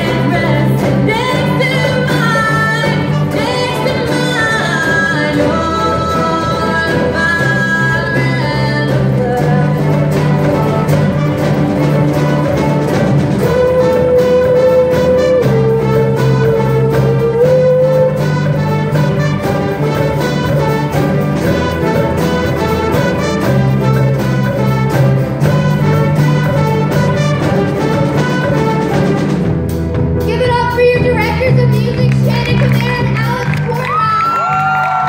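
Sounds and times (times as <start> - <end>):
band playing bass guitars and drums: 0.0 - 35.0
horn section playing: 0.0 - 35.0.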